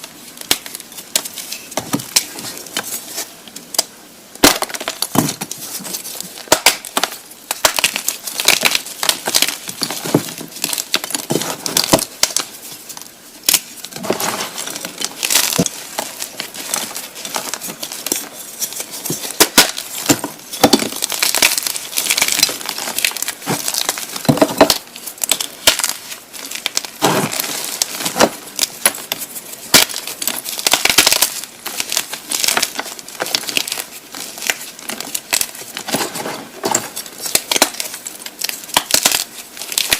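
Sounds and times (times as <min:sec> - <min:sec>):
chalk being crushed by hand: 0:00.0 - 0:39.9.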